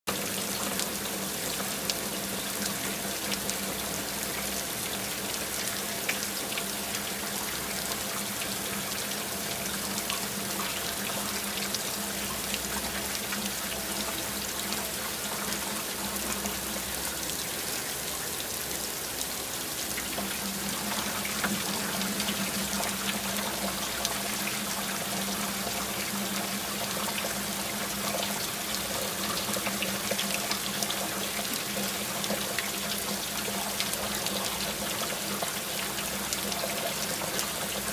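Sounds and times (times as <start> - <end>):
rain drops ticking: 0.1 - 37.9
steady rain hiss: 0.1 - 37.9.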